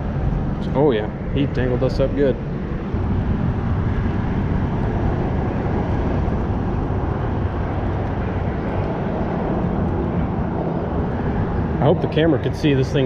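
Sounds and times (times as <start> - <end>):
low rushing noise: 0.0 - 13.0.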